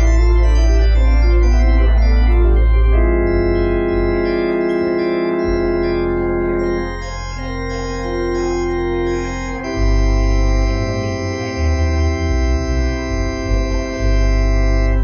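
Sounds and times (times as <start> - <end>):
deep organ pedal bass notes: 0.0 - 15.0
organ playing held chords: 0.0 - 15.0.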